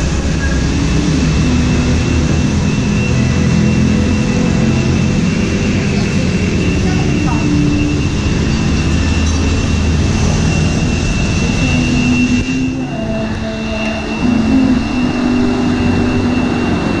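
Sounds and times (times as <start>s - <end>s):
loud street noise: 0.0s - 17.0s.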